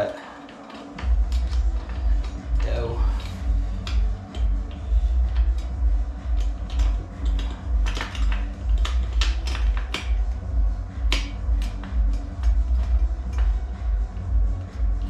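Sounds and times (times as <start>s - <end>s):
finger-snap beat: 0.9s - 15.0s
pulsing bass line: 1.0s - 15.0s.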